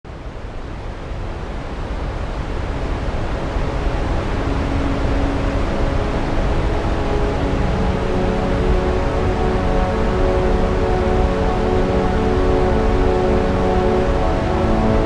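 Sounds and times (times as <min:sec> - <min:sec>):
waterfall rushing water: 0:00.1 - 0:15.0
held low musical tones: 0:02.8 - 0:15.0.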